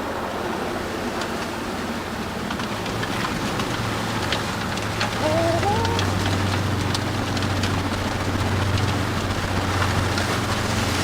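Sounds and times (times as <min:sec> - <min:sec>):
diesel engine running: 0:01.8 - 0:11.0.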